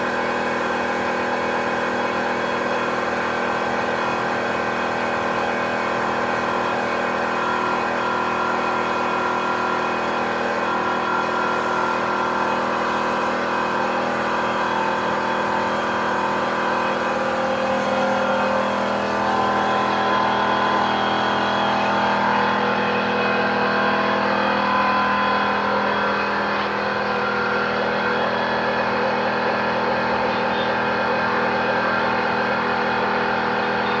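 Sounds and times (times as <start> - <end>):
air compressor motor humming: 0.0 - 34.0.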